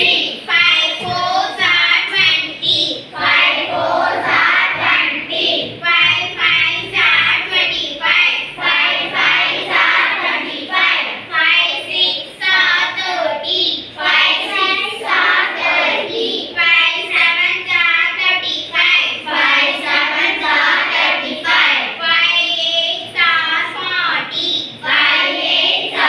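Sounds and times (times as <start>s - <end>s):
girls chanting in sing-song: 0.0s - 26.0s.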